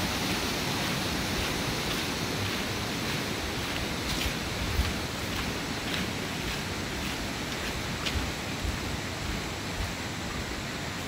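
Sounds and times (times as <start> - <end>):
waterfall stream rushing: 0.0 - 11.0.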